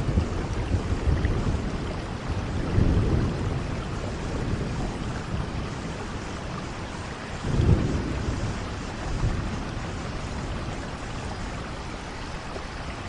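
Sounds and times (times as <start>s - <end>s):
low thunder rumble: 0.0s - 13.0s
steady rain hiss: 0.0s - 13.0s.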